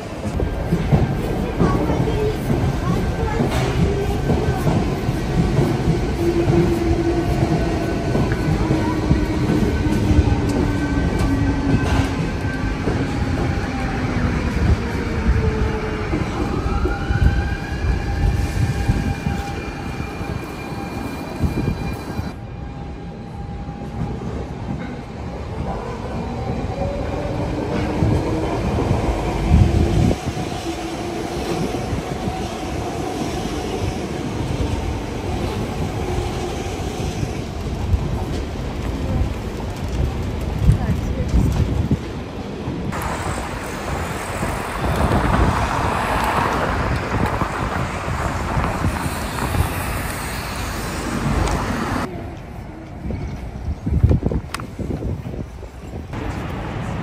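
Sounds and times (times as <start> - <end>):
low rail rumble: 0.0 - 57.0.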